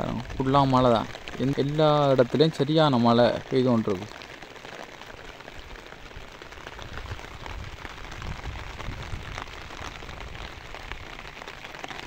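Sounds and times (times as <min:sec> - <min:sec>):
heavy rain on a wet road: 0:00.0 - 0:12.0.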